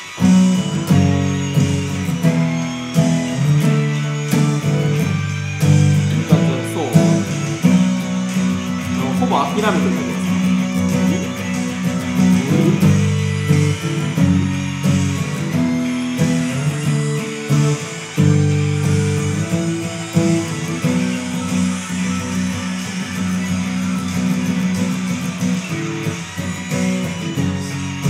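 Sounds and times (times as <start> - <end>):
guitar-led music: 0.0 - 28.0.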